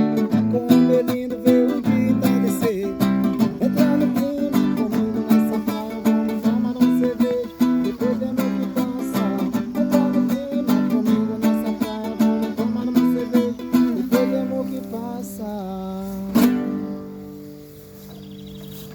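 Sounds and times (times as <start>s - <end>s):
strummed acoustic string instrument: 0.0s - 18.8s.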